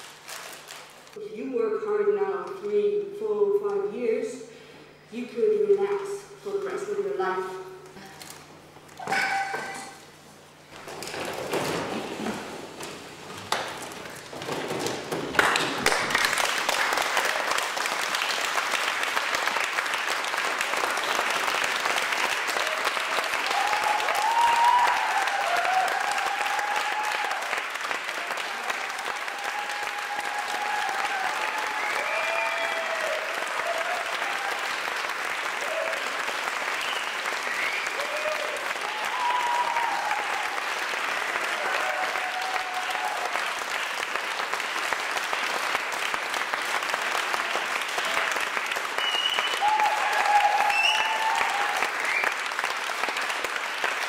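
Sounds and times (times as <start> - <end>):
audience applause: 10.7 - 54.0.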